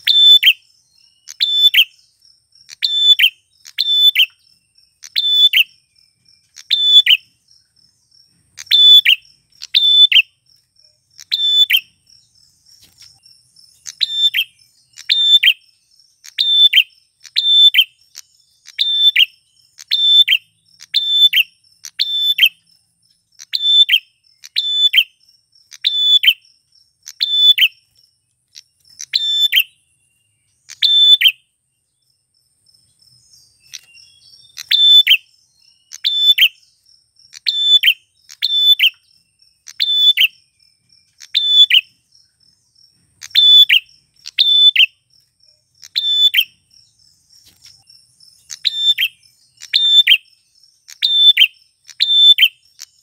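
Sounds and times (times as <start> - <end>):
bird chirping sharply: 0.0 - 22.7, 23.3 - 31.6, 33.2 - 42.1, 43.0 - 45.1, 45.8 - 53.0
faint high insect-like tone: 0.0 - 53.0.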